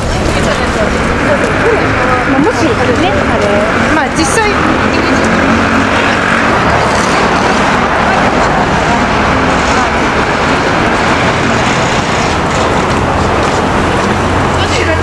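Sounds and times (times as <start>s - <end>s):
low engine hum: 0.0s - 15.0s
road noise: 0.0s - 15.0s
vehicles passing: 0.0s - 15.0s.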